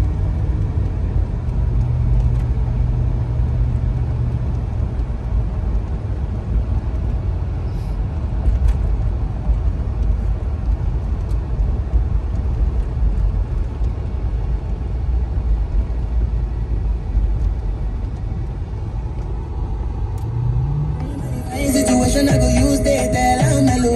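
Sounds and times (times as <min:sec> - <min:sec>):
car engine and tyres rumbling: 0:00.0 - 0:23.9.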